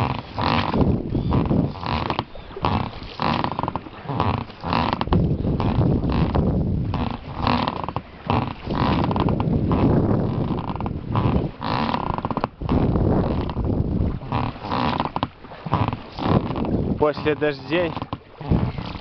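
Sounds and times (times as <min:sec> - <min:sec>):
microphone rumble noise: 0:00.0 - 0:19.0
oars creaking in oarlocks: 0:00.0 - 0:19.0
oars splashing: 0:00.0 - 0:19.0.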